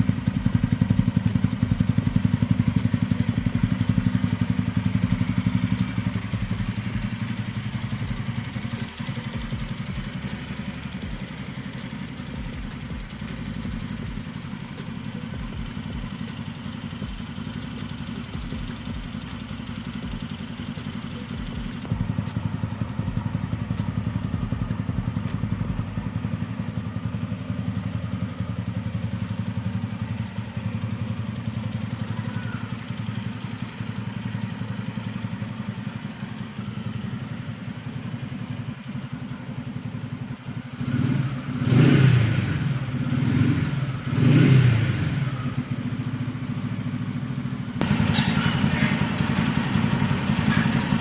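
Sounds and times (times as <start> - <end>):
motorcycle engine idling and revving: 0.0 - 51.0.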